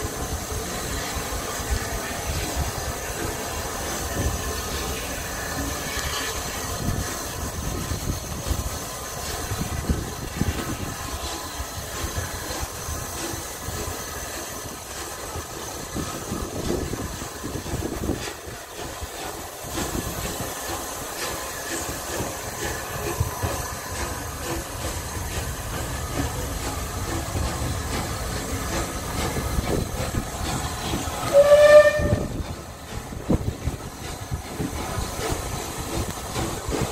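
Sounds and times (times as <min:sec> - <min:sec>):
steam hissing: 0:00.0 - 0:36.9
train carriage rumbling on rails: 0:00.0 - 0:36.9.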